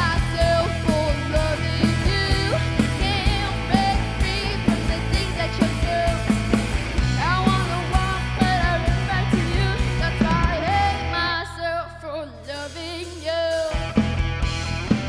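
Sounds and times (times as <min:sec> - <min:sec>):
lead singer with vibrato: 0:00.0 - 0:14.0
live rock band playing: 0:00.0 - 0:15.0.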